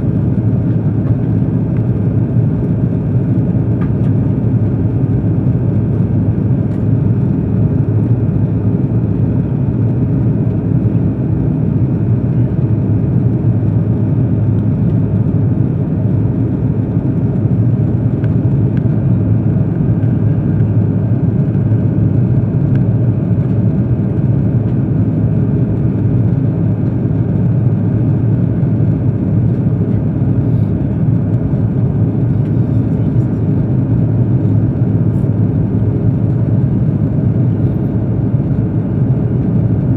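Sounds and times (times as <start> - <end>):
jet engines in cabin: 0.0 - 39.9.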